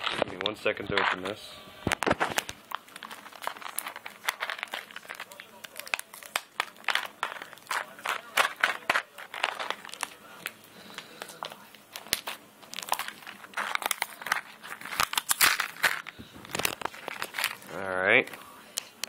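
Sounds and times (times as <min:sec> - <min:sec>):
packaging crinkling: 0:00.0 - 0:19.0.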